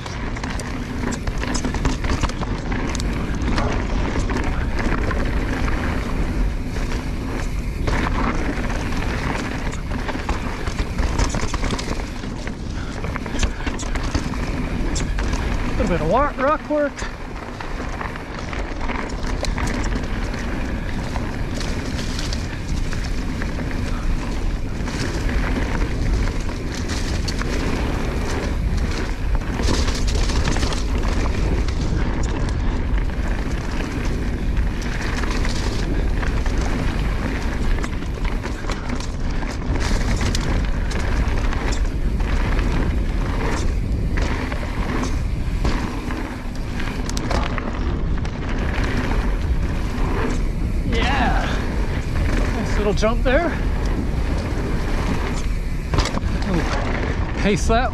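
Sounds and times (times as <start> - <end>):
bike knocks and rattles: 0.0 - 57.9
bike tyre noise: 0.0 - 57.9
wind buffeting microphone: 0.0 - 57.9.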